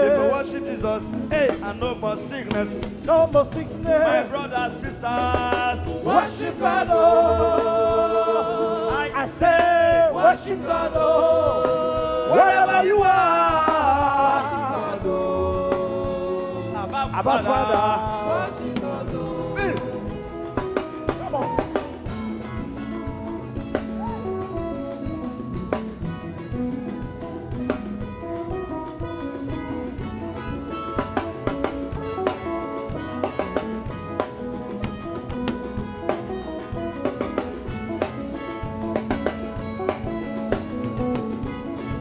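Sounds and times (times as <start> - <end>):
upbeat instrumental band music: 0.0 - 42.0.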